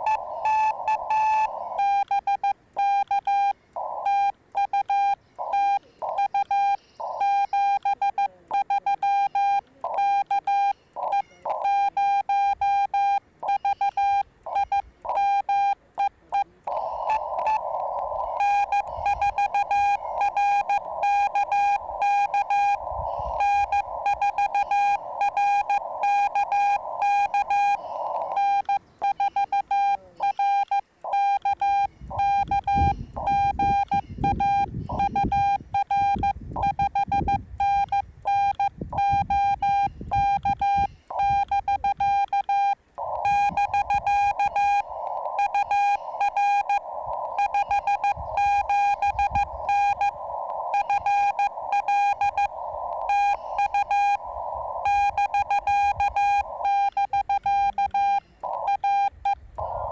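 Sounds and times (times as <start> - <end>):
radio band hiss: 0.0 - 2.8, 3.5 - 59.9
morse code beeping: 0.0 - 59.9.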